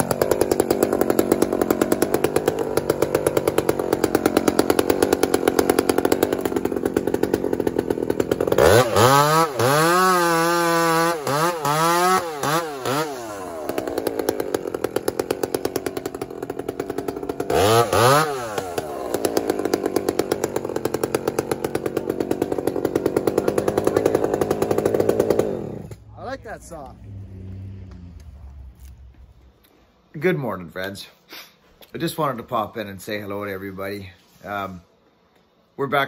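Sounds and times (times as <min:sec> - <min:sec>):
two-stroke chainsaw idling and revving: 0:00.0 - 0:29.4.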